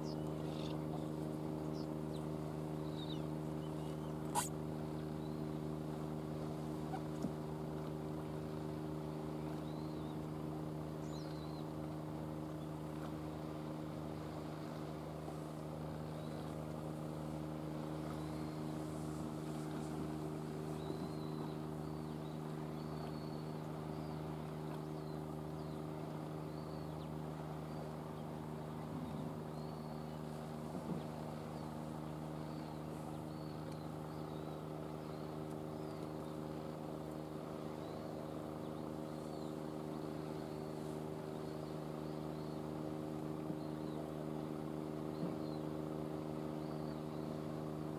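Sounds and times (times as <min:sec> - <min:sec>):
boat engine idling: 0:00.0 - 0:47.9.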